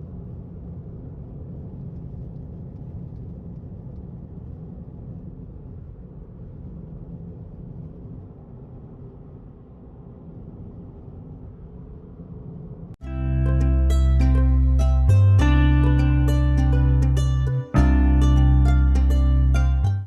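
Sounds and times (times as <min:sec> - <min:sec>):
faint hum: 0:00.0 - 0:20.0
steady low rumble: 0:00.0 - 0:20.0.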